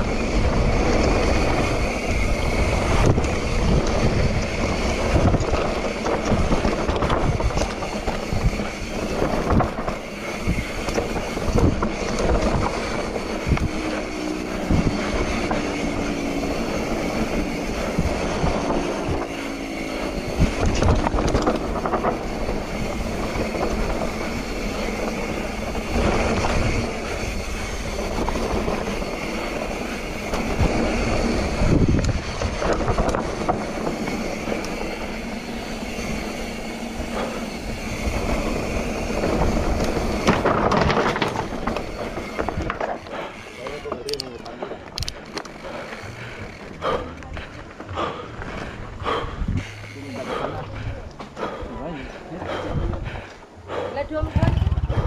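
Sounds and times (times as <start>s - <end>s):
bike knocking and clattering: 0.0s - 51.6s
tyres on loose dirt: 0.0s - 55.0s
wind buffeting microphone: 0.0s - 55.0s.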